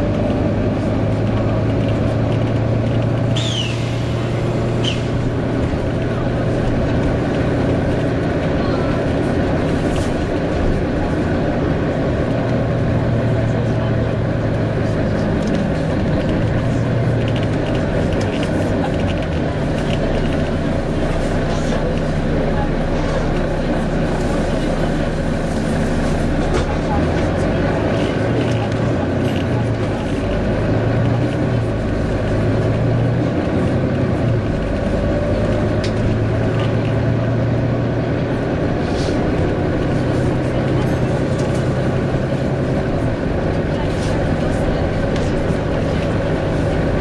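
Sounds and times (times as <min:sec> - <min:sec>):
bus engine and fan drone: 0:00.0 - 0:47.0.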